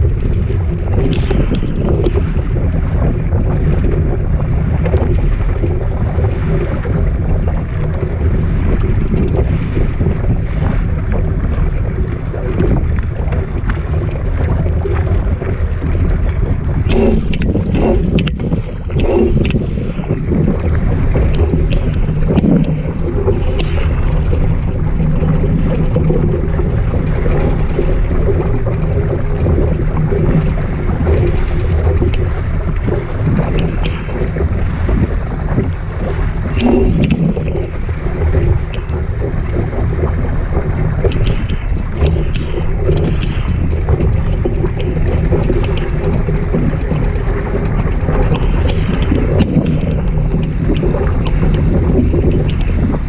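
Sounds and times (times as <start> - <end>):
water splashing along a hull: 0.0 - 53.0
wind buffeting microphone: 0.0 - 53.0.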